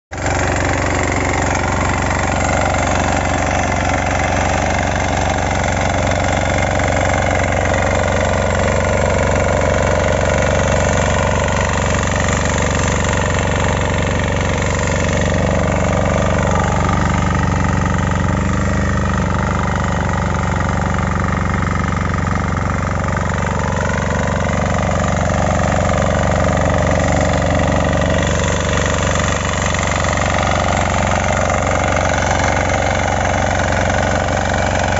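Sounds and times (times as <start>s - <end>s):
cultivator engine running: 0.1s - 34.9s.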